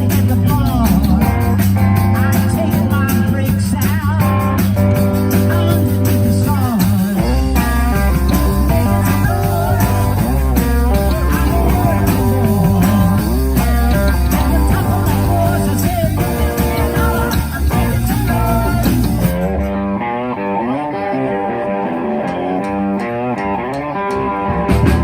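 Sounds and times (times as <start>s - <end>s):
bass: 0.0s - 25.0s
bluesy rock guitar: 0.0s - 25.0s.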